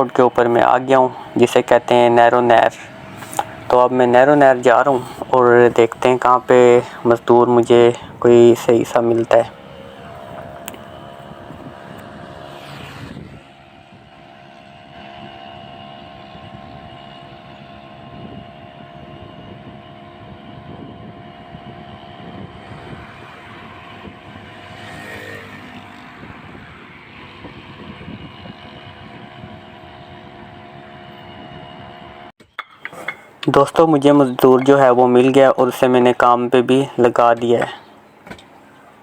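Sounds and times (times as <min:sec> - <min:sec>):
vehicle engine running: 0:00.0 - 0:32.3, 0:32.9 - 0:39.0
wind noise: 0:00.0 - 0:32.3
road noise: 0:00.0 - 0:39.0.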